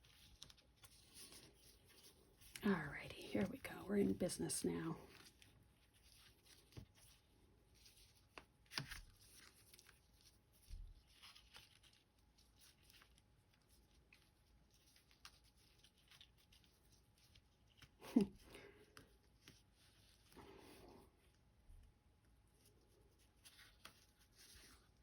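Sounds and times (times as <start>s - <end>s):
ribbon and paper rustling: 0.0s - 25.0s.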